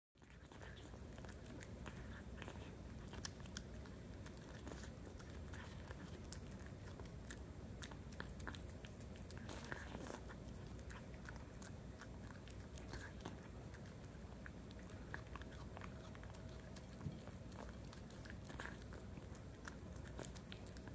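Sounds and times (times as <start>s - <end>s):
cat chewing and crunching: 0.2s - 20.9s
low background noise: 0.2s - 20.9s.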